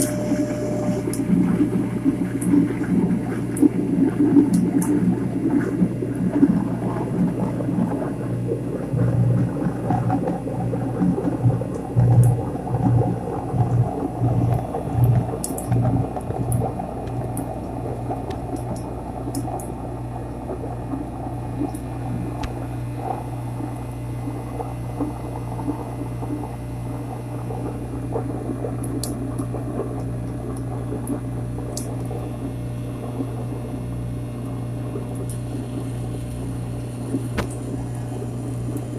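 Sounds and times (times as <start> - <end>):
garbage disposal motor hum: 0.0 - 38.9
water gurgling through disposal: 0.0 - 38.9.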